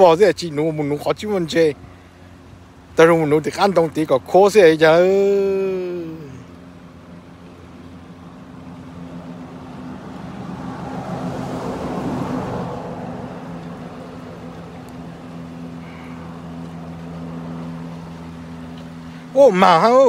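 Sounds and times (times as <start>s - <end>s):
low engine hum: 0.0s - 20.0s
vehicle passing: 0.7s - 20.0s.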